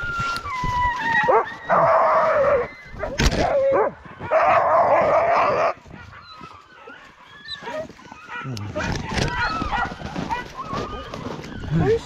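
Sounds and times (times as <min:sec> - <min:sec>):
sled dogs barking and yelping: 0:00.0 - 0:12.0.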